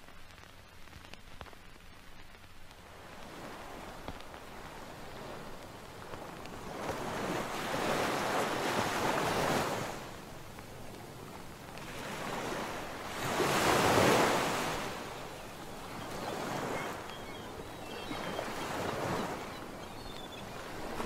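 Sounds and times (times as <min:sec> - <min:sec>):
sea surf washing onto shore: 0:00.1 - 0:21.0.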